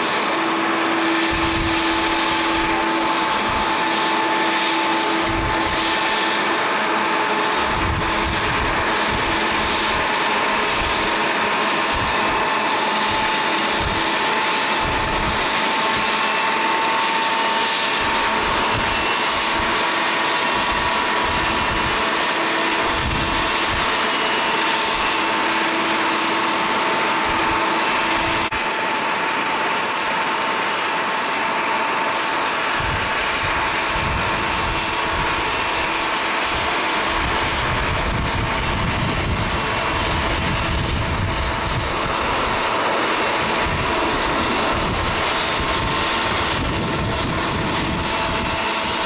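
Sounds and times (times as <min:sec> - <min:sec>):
wind buffeting microphone: 0:00.0 - 0:28.7, 0:32.6 - 0:49.0
jet engines whining: 0:00.0 - 0:49.0.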